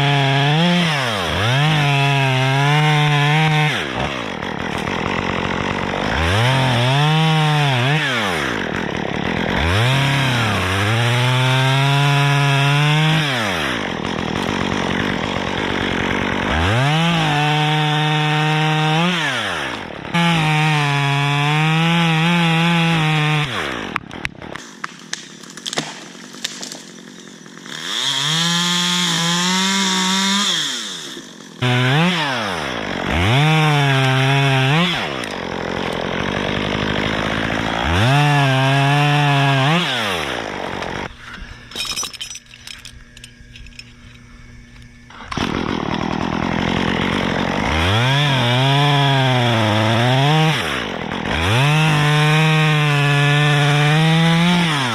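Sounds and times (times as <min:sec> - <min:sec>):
chainsaw revving and cutting: 0:00.0 - 0:54.9.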